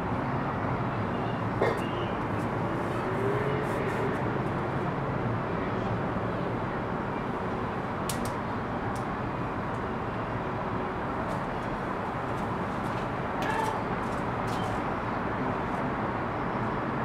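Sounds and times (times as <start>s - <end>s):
low urban rumble and hiss: 0.0s - 17.0s.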